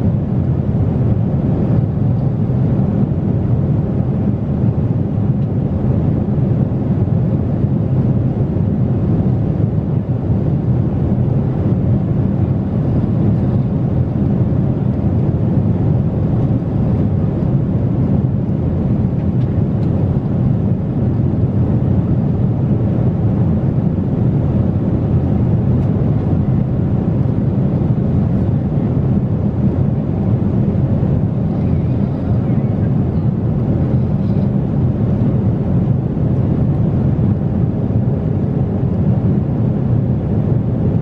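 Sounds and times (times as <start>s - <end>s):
airliner cabin roar: 0.0s - 41.0s.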